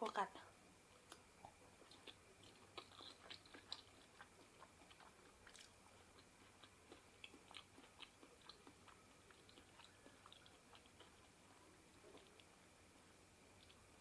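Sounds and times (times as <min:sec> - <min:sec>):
mouth clicks and smacks: 0:01.0 - 0:12.5
person chewing: 0:01.0 - 0:14.0.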